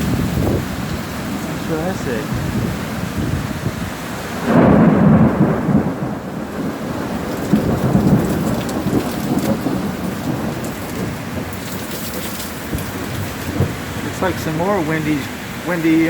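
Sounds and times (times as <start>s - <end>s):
heavy rain: 0.0s - 16.0s
thunder rumble: 0.0s - 16.0s.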